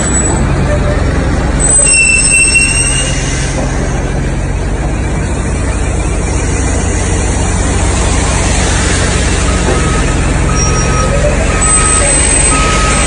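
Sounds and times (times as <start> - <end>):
heavy engine idling: 0.0 - 13.0.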